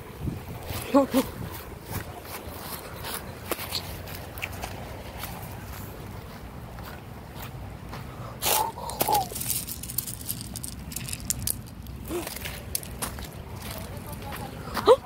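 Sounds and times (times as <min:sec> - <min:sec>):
footsteps crunching on gravel: 0:00.6 - 0:15.0.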